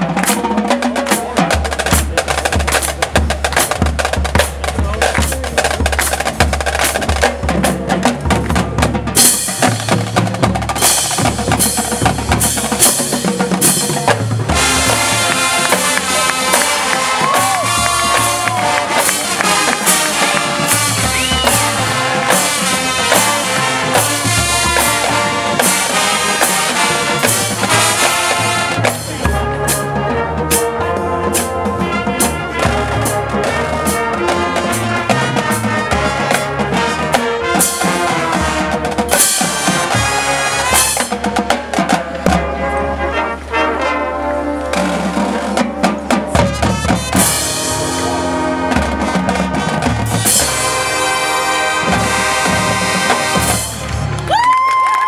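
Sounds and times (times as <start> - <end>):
front-ensemble percussion: 0.0 - 55.0
marching band brass: 0.0 - 55.0
marching drums: 0.0 - 55.0.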